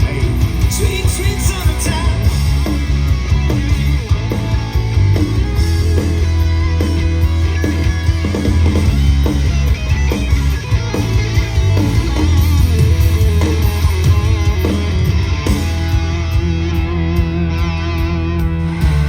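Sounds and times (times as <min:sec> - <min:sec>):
bass line: 0:00.0 - 0:19.0
drum beats: 0:00.0 - 0:19.0
electric guitar: 0:00.0 - 0:19.0.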